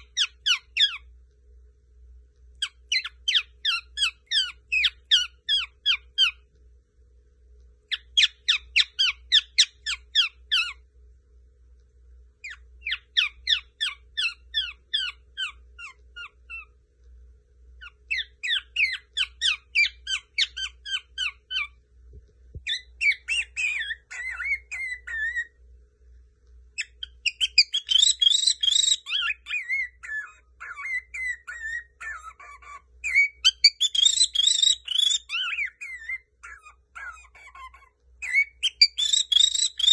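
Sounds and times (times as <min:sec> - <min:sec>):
cockatiel chirping and warbling: 0:00.0 - 0:01.1, 0:02.6 - 0:06.5, 0:07.9 - 0:10.8, 0:12.4 - 0:16.8, 0:17.8 - 0:21.8, 0:22.6 - 0:25.6, 0:26.8 - 0:39.9.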